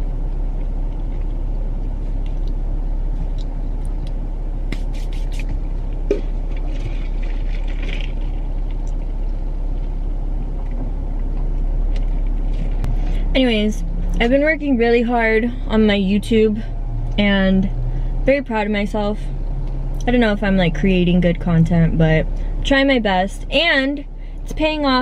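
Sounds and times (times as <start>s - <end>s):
air conditioning running: 0.0s - 25.0s
car engine idling: 0.0s - 25.0s.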